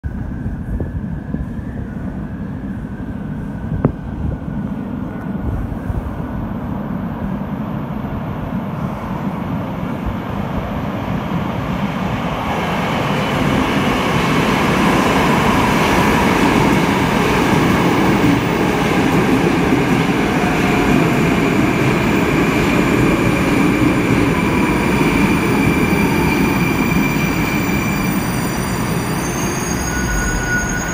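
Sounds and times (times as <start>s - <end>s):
high whine of train: 0.0s - 30.9s
metro train rumble: 0.0s - 30.9s.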